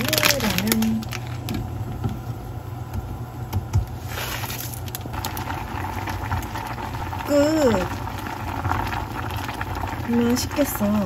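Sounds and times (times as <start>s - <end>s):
broth simmering in pot: 0.0s - 11.0s
low hum: 0.0s - 11.0s.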